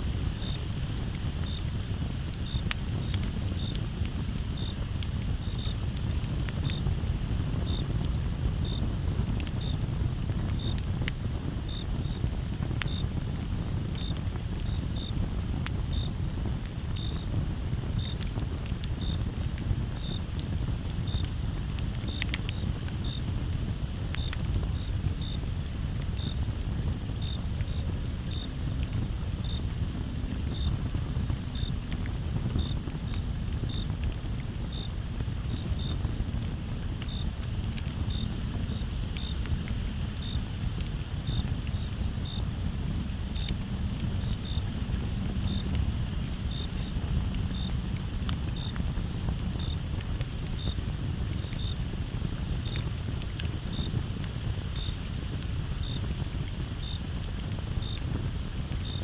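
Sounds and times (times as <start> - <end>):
burning wood crackling: 0.0 - 59.0
campfire hissing: 0.0 - 59.0
crickets chorus: 0.0 - 59.0
cricket chirping: 0.1 - 59.0.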